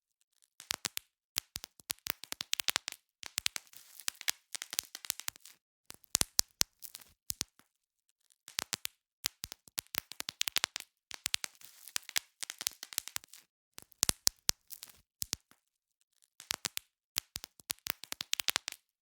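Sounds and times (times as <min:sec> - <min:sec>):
bubble wrap popping: 0:00.6 - 0:07.6, 0:08.5 - 0:15.6, 0:16.4 - 0:18.9.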